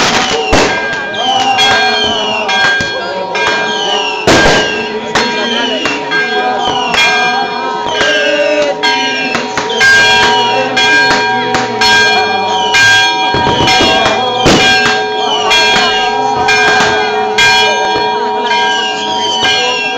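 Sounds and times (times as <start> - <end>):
church bells ringing fast: 0.0 - 19.9.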